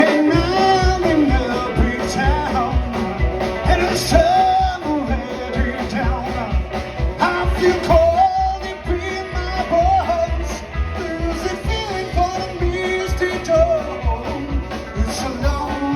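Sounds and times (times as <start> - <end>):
bending lead melody: 0.0 - 15.9
rock band playing live: 0.0 - 15.9
steady drum beat: 0.0 - 15.9.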